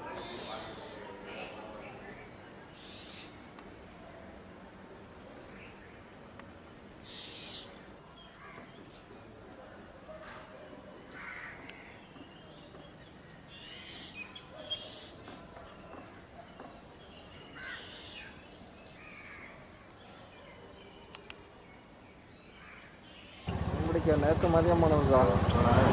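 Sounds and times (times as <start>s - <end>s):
birds calling: 0.0s - 4.0s, 5.4s - 9.1s, 11.0s - 25.9s
faint outdoor background noise: 0.0s - 25.9s.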